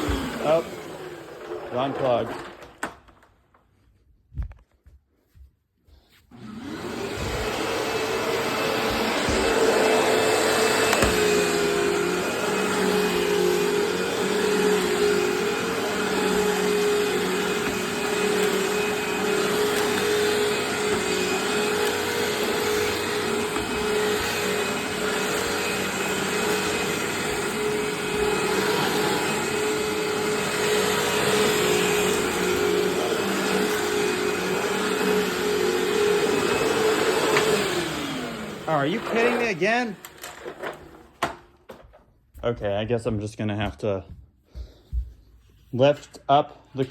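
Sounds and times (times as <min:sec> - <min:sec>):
upright vacuum cleaner running: 0:00.0 - 0:03.3, 0:06.3 - 0:41.9.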